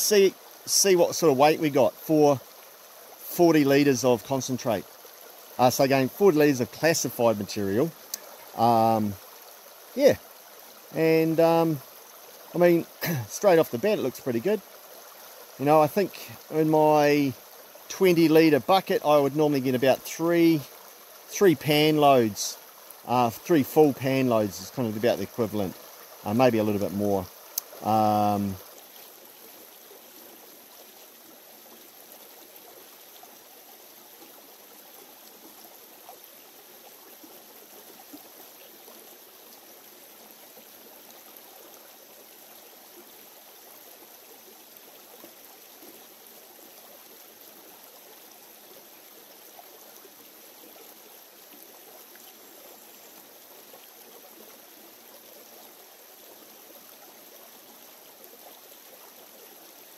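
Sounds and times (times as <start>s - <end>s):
creek running over rocks: 0.0s - 59.9s.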